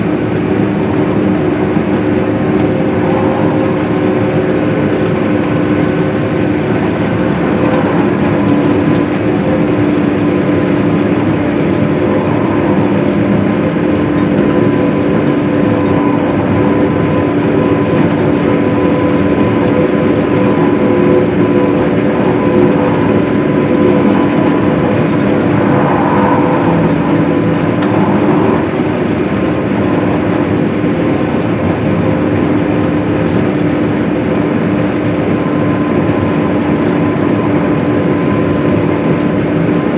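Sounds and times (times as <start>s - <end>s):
swather engine drone: 0.0s - 39.9s.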